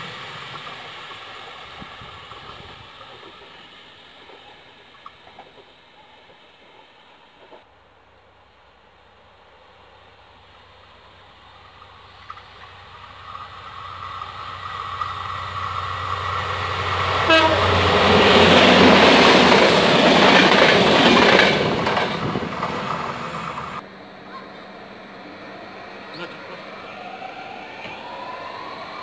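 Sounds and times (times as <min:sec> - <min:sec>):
diesel locomotive passing: 0:00.0 - 0:29.0.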